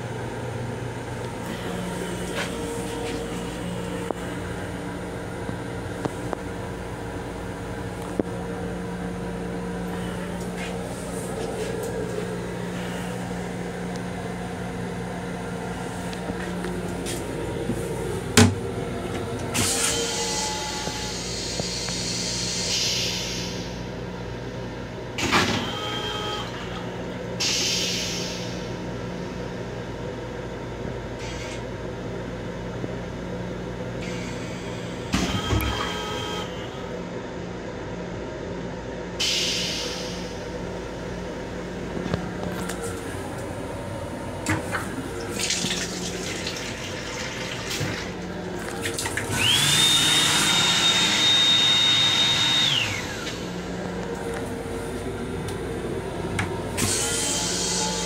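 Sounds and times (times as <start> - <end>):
electric railcar hum: 0.0 - 58.0.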